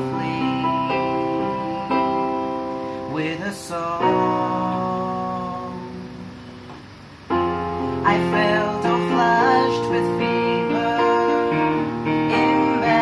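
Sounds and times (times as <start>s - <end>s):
man singing: 0.0s - 2.4s, 3.1s - 6.2s, 8.0s - 13.0s
electronic keyboard piano chords: 0.0s - 13.0s.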